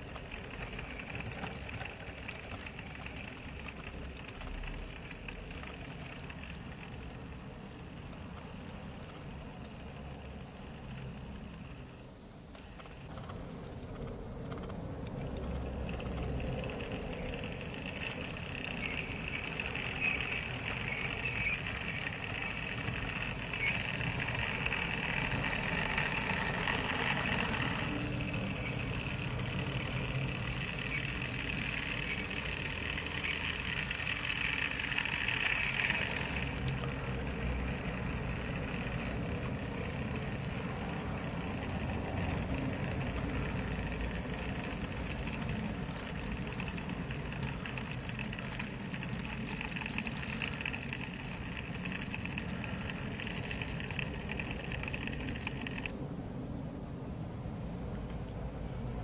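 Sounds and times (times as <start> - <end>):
model train motor whine: 0.0 - 13.3, 14.4 - 55.9
low engine-like rumble: 0.0 - 59.0.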